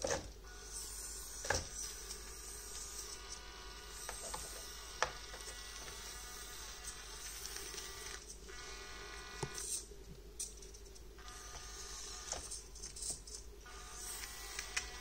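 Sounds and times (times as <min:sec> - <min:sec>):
toy truck gear motor whining: 0:00.0 - 0:09.9, 0:11.2 - 0:15.0.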